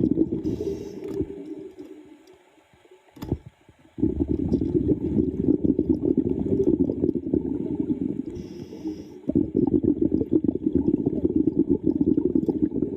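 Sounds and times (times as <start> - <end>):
water bubbling underwater: 0.0 - 12.9.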